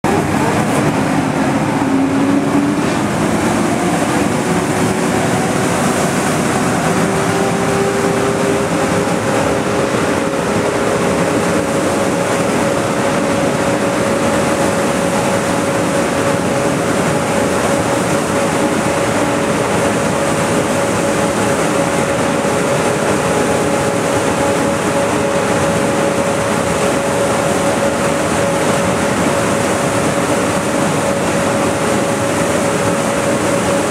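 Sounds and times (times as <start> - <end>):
fan blowing air: 0.0 - 33.9.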